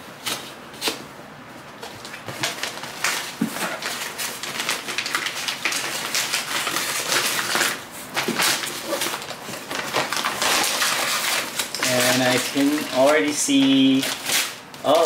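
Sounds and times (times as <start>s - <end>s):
gift wrap tearing and crinkling: 2.1s - 15.0s.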